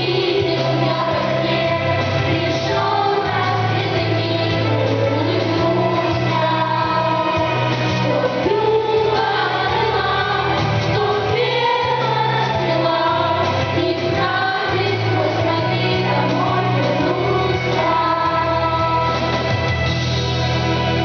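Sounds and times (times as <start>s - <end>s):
choir singing: 0.0s - 19.8s
instrumental backing with bass notes: 0.0s - 21.0s.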